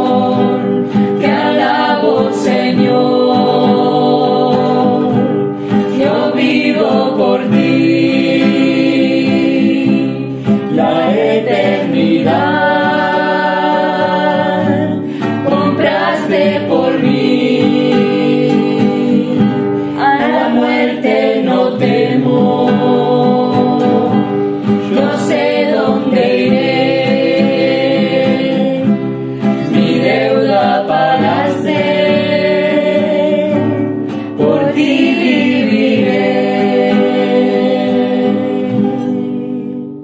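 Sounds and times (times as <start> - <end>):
acoustic guitar: 0.0 - 40.0
men and women singing a hymn: 0.0 - 40.0.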